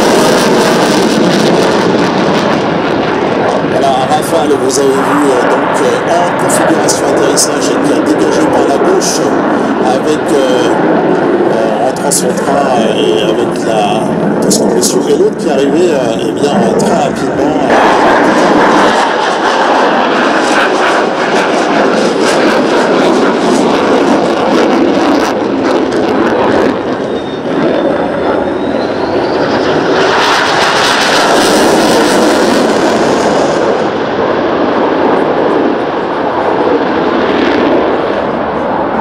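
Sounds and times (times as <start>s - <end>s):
fighter jets flying by: 0.0s - 39.0s.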